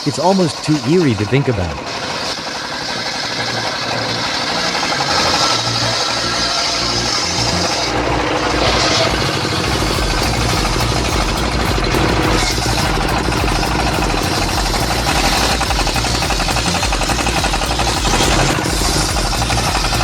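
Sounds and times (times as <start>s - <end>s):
log-cutting machine engine rattling: 0.0s - 20.0s.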